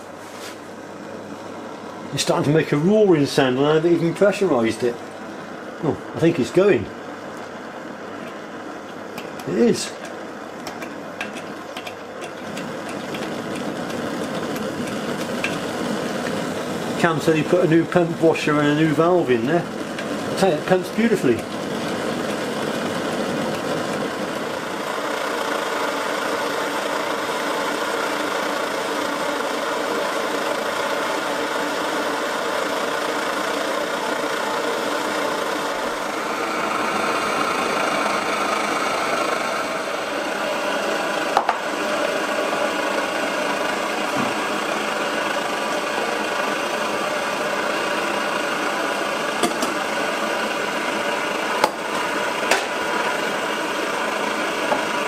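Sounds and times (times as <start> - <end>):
pressure stove burner roaring: 0.0 - 55.0.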